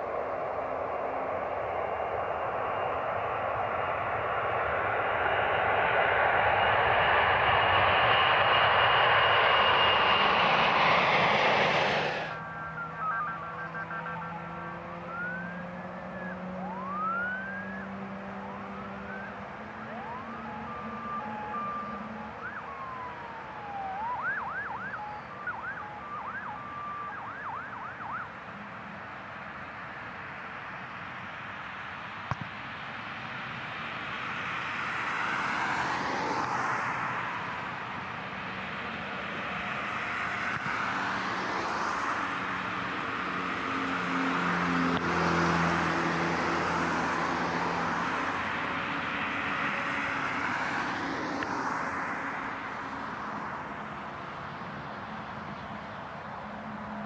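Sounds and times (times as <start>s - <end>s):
siren wailing: 0.0s - 28.7s, 34.3s - 54.1s
jet engines roaring: 0.0s - 57.0s.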